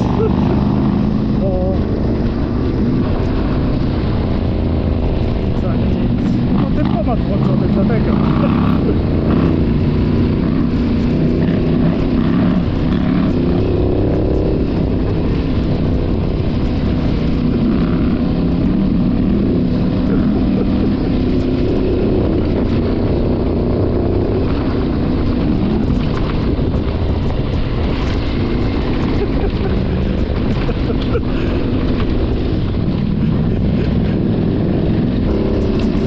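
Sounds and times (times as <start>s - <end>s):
motorcycle engine cruising: 0.0s - 36.0s
wind rumble on microphone: 0.0s - 36.0s.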